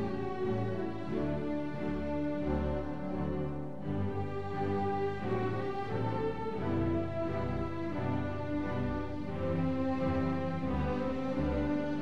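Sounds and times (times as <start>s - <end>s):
slow orchestral strings: 0.0s - 12.0s.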